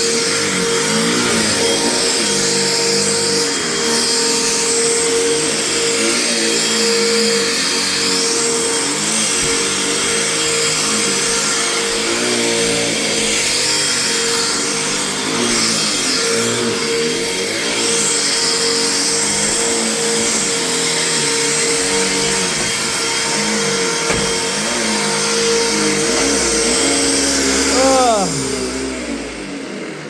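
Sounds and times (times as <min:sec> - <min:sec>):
vacuum cleaner on carpet: 0:00.0 - 0:30.0.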